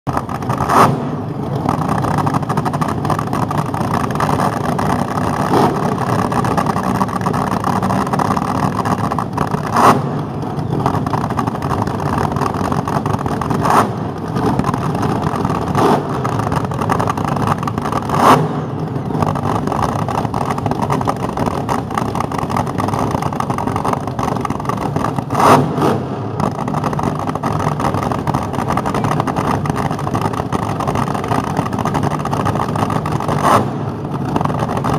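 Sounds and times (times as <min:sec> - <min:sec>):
car engines rumbling: 0:00.0 - 0:34.9.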